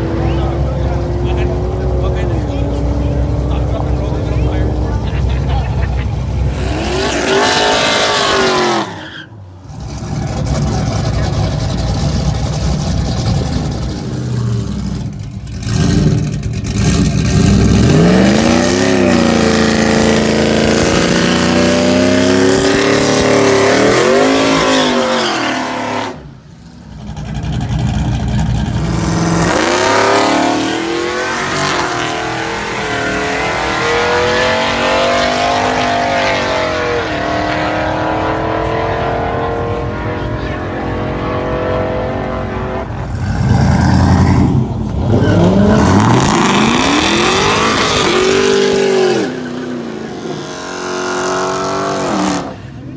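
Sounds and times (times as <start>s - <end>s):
drag racing engines revving: 0.0s - 52.9s.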